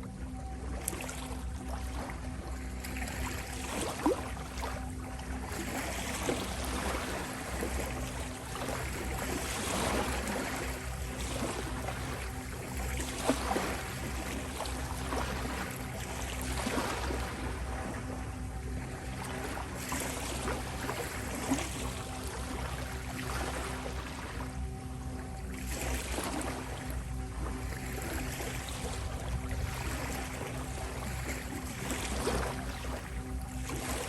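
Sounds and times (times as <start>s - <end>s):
soft sine tone drone: 0.0s - 34.0s.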